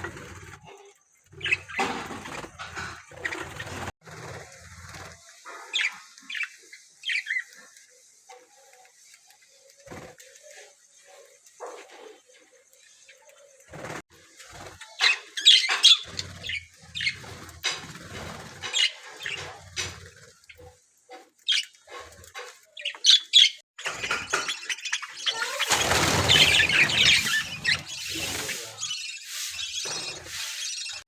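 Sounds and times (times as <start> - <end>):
budgerigars chirping and chattering: 0.0 - 3.9, 5.4 - 8.9, 9.5 - 31.0.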